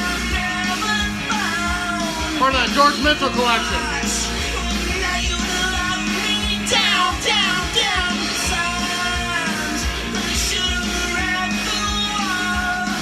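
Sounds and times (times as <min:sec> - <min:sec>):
person singing: 0:00.0 - 0:13.0
vinyl record music: 0:00.0 - 0:13.0.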